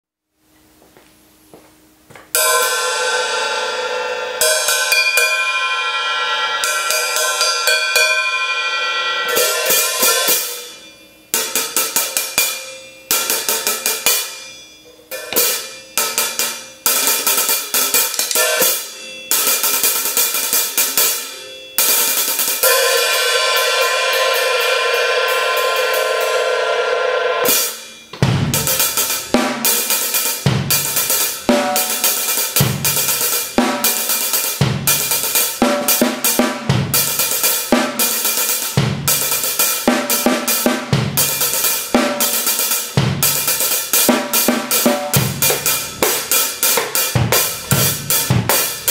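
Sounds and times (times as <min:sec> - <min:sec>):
hi-hat cymbals: 0:02.3 - 0:48.9.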